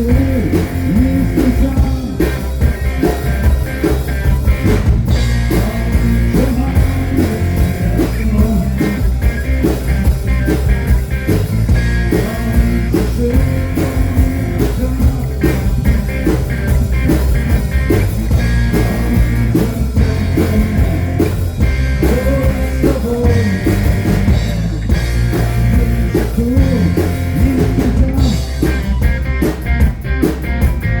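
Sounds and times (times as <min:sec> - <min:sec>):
heavy bass line: 0:00.0 - 0:31.0
lead guitar melodic lines: 0:00.0 - 0:31.0
rock band playing live: 0:00.0 - 0:31.0.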